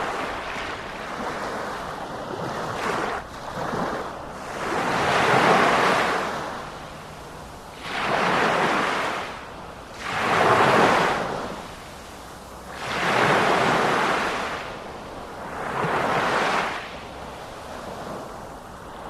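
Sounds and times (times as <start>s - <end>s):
waves breaking: 0.0s - 19.0s.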